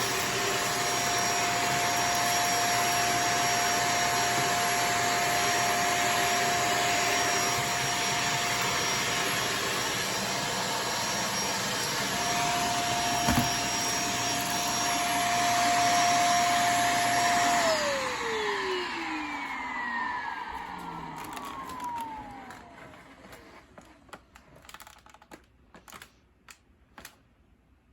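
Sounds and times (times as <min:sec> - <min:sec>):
vacuum cleaner running: 0:00.0 - 0:24.1.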